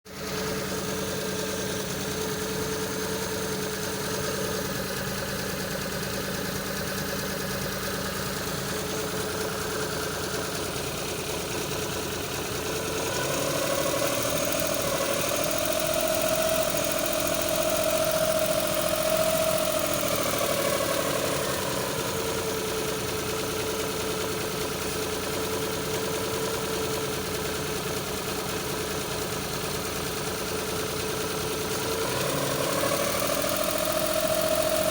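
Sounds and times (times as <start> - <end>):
engine idling unevenly: 0.1 - 34.9.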